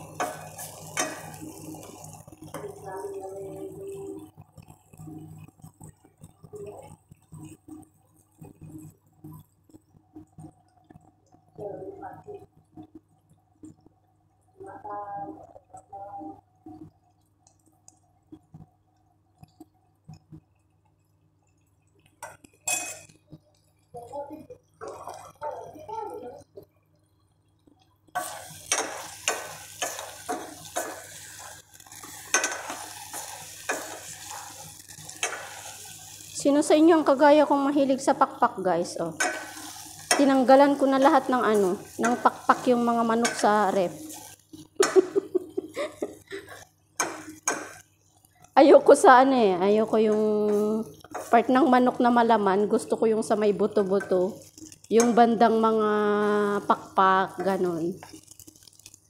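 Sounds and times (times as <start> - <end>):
sauce simmering in pot: 0.0 - 11.7, 12.4 - 14.6, 15.2 - 59.0.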